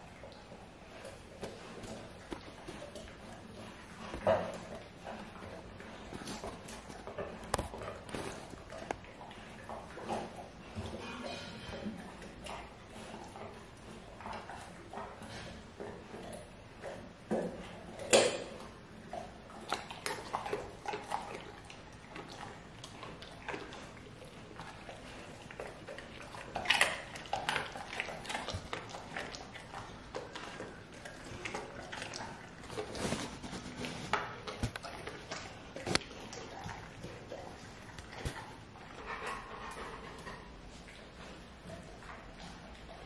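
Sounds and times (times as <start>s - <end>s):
dog chewing carrot: 0.0s - 43.0s.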